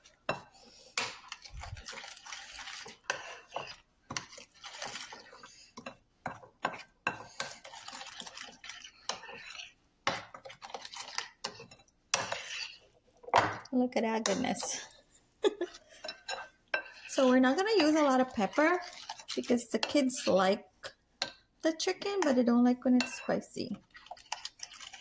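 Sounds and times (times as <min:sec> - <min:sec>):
spoon stirring and scraping bowl: 0:00.0 - 0:25.0.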